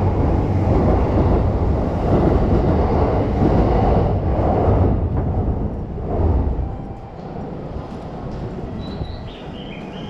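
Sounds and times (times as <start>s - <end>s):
city street noise rumble: 0.0s - 10.0s.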